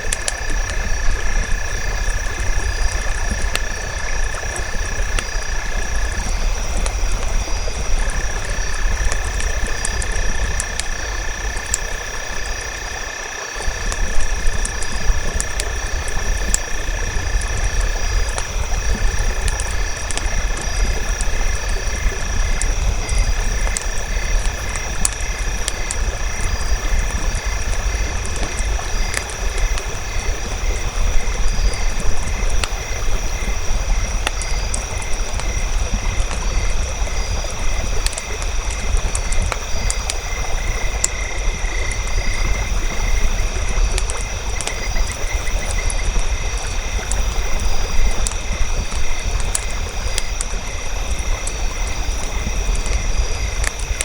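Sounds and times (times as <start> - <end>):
campfire crackling and popping: 0.0 - 54.0
frogs and insects trilling: 0.0 - 54.0.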